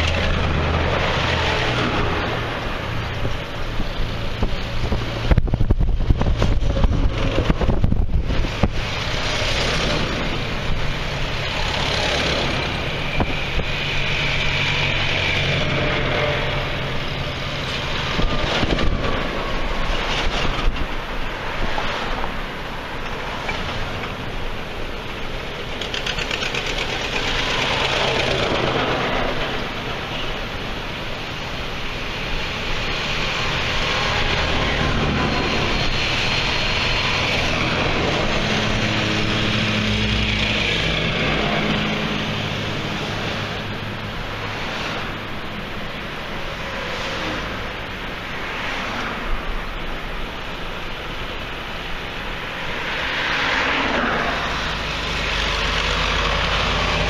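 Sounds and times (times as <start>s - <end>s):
car wind and road noise: 0.0s - 57.0s
passing tractor engines: 0.0s - 57.0s.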